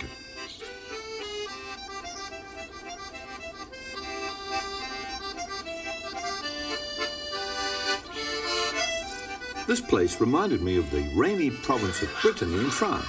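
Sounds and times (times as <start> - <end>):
accordion melody: 0.0 - 13.0.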